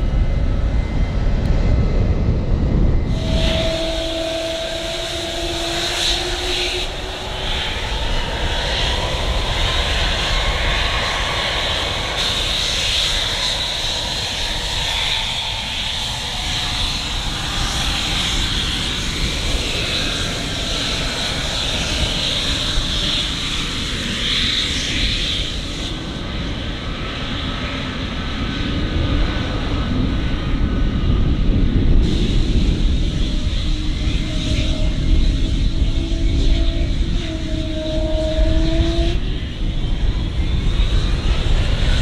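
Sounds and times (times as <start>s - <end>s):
jet engines whining: 0.0s - 42.0s.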